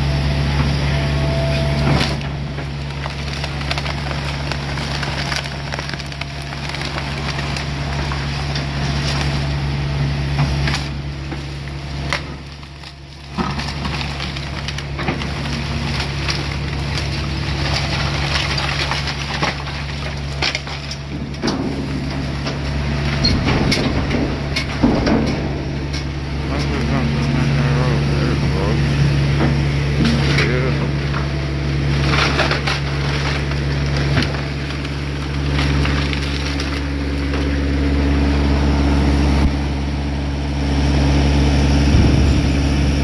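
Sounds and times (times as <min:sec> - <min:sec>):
excavator diesel engine hum: 0:00.0 - 0:43.0
material crunching and clattering: 0:01.8 - 0:09.6, 0:10.4 - 0:28.7, 0:29.3 - 0:38.3.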